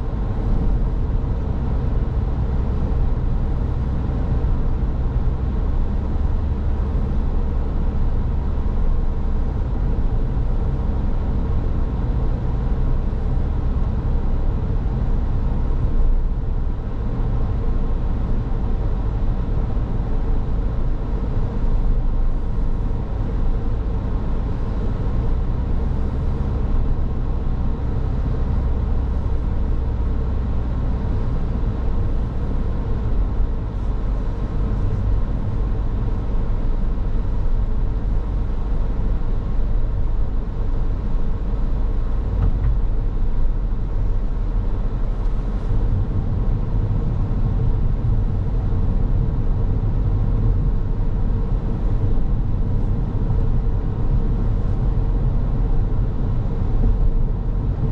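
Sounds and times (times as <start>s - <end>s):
car engine: 0.0s - 57.9s
faint steady hum: 0.0s - 57.9s
road rumble: 0.0s - 57.9s.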